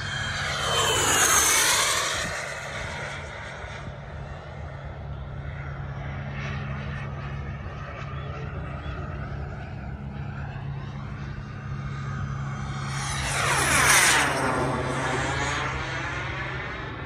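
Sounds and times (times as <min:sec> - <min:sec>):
model jet turbine passing: 0:00.0 - 0:17.0.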